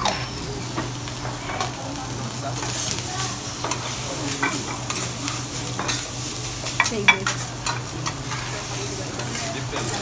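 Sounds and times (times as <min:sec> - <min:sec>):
rice sizzling on a griddle: 0:00.0 - 0:10.0.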